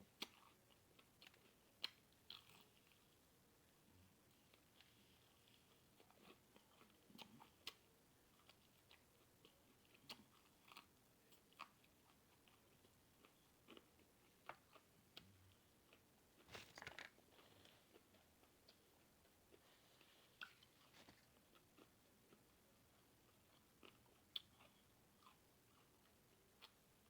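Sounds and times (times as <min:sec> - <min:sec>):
person chewing: 0:00.1 - 0:03.2, 0:04.4 - 0:26.8.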